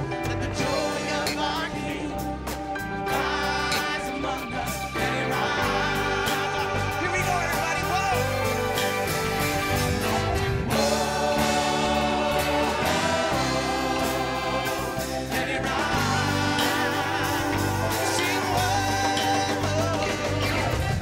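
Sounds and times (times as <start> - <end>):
keyboard and guitar accompaniment: 0.0 - 21.0
vocalists singing together: 0.0 - 21.0.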